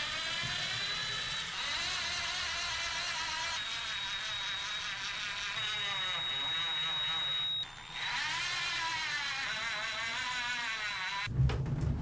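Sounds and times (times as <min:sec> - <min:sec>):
power drill motor whining: 0:00.0 - 0:11.3.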